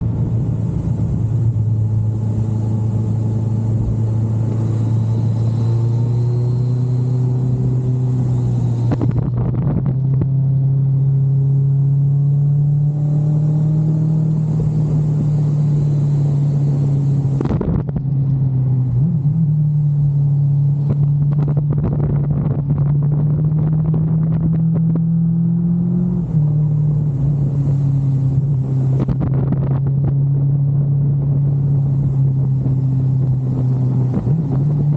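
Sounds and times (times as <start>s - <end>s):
motorcycle engine droning: 0.0s - 34.9s.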